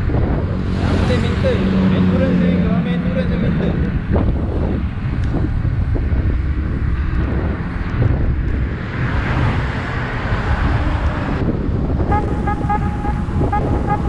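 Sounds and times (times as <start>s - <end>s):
wind buffeting microphone: 0.0s - 2.2s, 3.2s - 14.0s.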